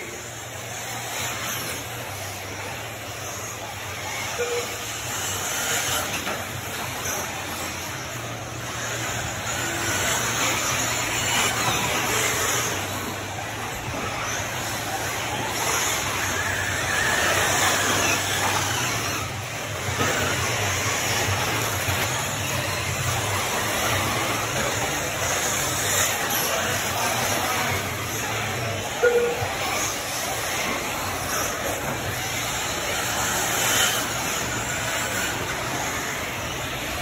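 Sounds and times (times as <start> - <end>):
rc car motor whine: 0.0 - 37.0.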